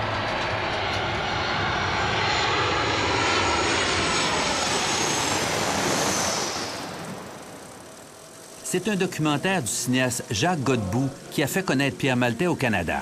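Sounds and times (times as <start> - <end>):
aircraft passing: 0.0 - 13.0.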